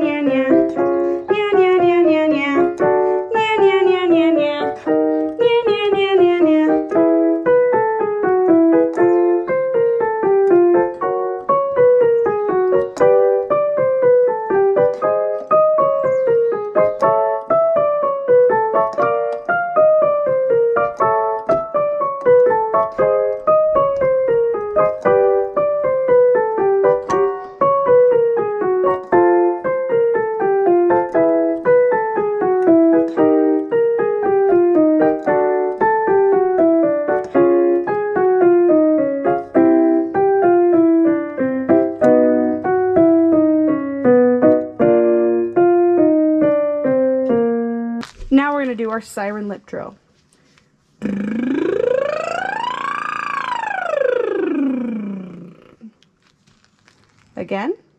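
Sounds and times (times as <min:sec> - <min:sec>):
piano descending scale runs: 0:00.0 - 0:48.0, 0:51.0 - 0:55.8.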